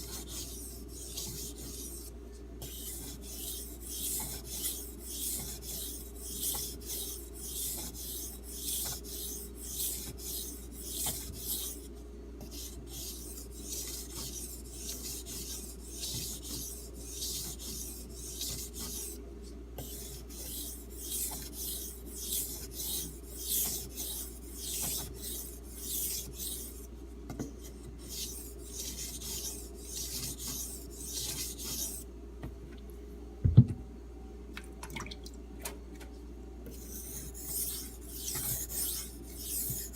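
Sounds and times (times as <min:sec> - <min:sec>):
knife scraping on whetstone: 0:00.0 - 0:11.8, 0:12.4 - 0:19.1, 0:19.8 - 0:26.8, 0:28.0 - 0:32.0, 0:36.7 - 0:39.9.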